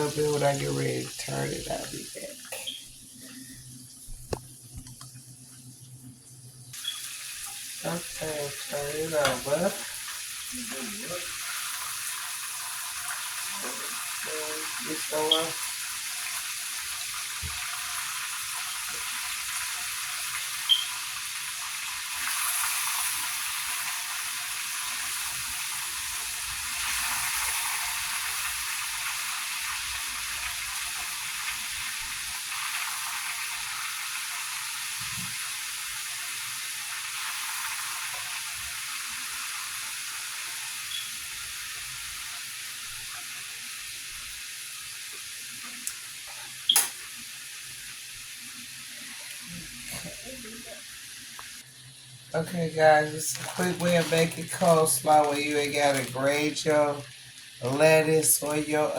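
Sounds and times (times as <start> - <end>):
chicken frying in hot oil: 0.0 - 58.9.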